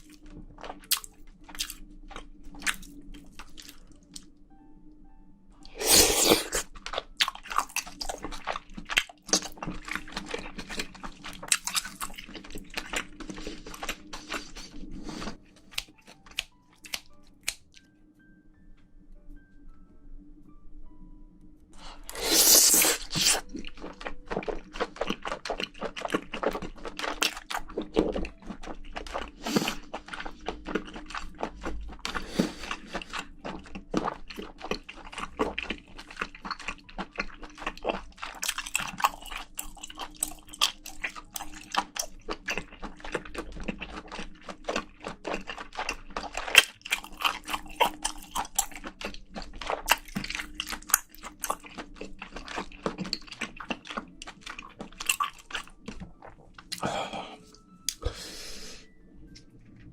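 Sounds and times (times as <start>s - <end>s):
wet chewing with crunches: 0.0s - 4.3s, 5.6s - 17.8s, 21.8s - 58.8s.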